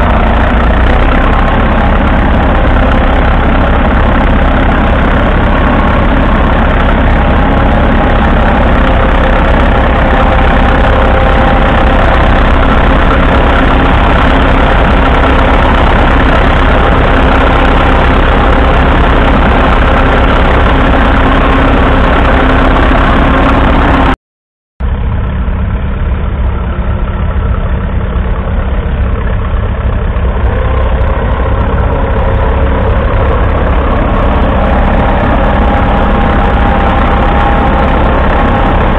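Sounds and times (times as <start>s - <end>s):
tractor engine running: 0.0s - 24.2s, 24.8s - 38.9s.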